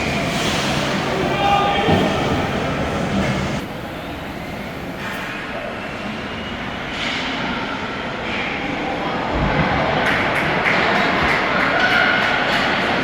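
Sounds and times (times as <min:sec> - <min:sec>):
ice hockey rink noise: 0:00.0 - 0:13.0.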